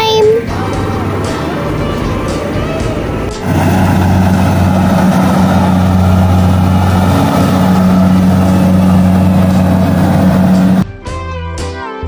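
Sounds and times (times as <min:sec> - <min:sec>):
combine harvester engine humming: 0:00.1 - 0:10.8
rushing mechanical noise: 0:00.5 - 0:10.8.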